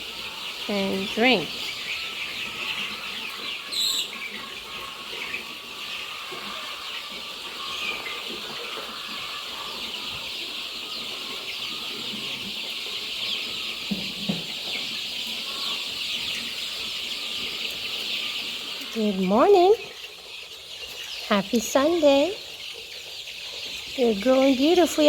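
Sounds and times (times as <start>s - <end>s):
chickens peeping: 0.0s - 25.0s.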